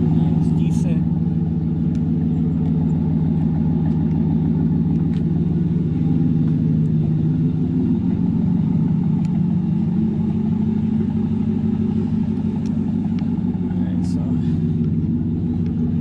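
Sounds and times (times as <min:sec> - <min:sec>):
truck exhaust low rumble: 0:00.0 - 0:16.0.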